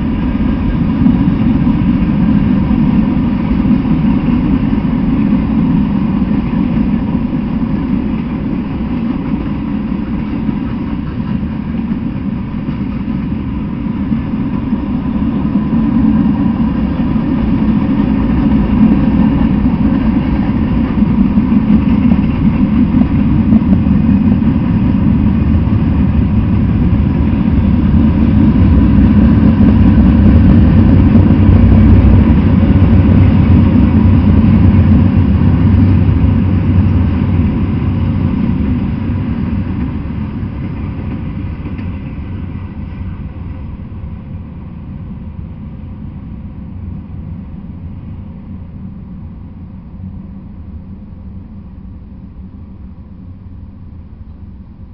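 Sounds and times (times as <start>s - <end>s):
freight train wheels rumbling on rails: 0.0s - 54.9s.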